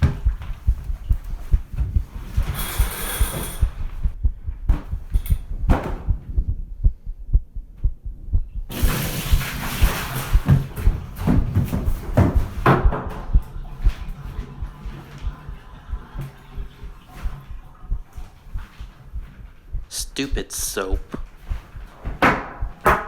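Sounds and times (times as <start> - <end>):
pounding heartbeat thumps: 0.0 - 23.0.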